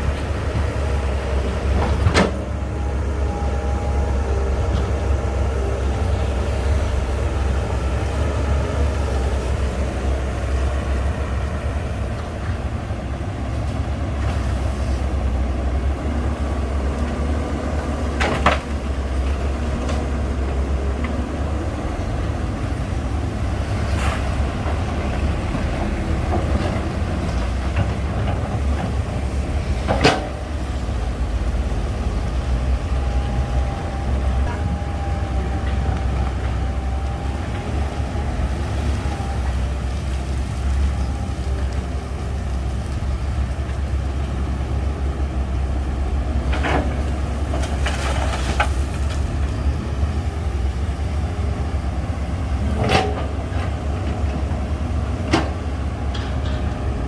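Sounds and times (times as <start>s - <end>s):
diesel machinery rumbling: 0.0s - 57.0s.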